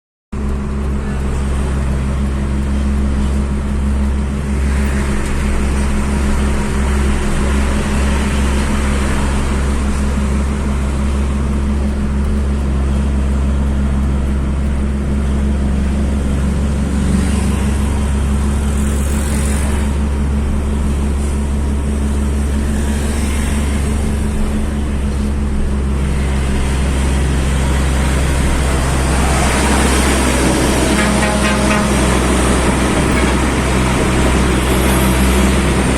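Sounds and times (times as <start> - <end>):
road and tyre noise: 0.3 - 35.9
vehicle engine drone: 0.3 - 35.9
passing traffic: 0.4 - 35.9.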